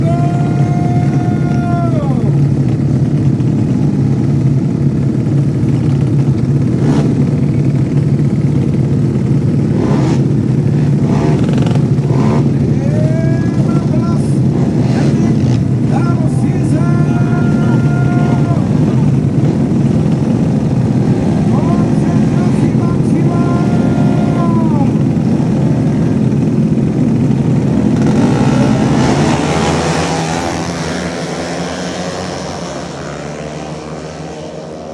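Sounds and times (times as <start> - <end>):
motorcycle engines droning: 0.0 - 34.9.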